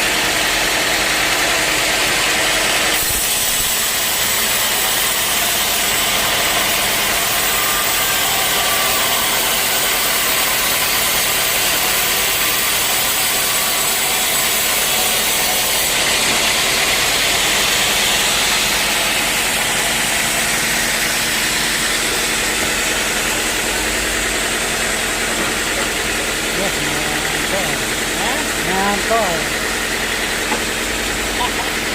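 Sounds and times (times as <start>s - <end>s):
sawmill machinery running: 0.0s - 31.9s.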